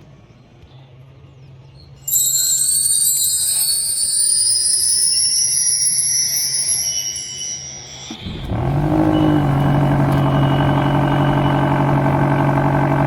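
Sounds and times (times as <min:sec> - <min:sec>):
high bell-like ringing rising in pitch: 0:02.0 - 0:12.6.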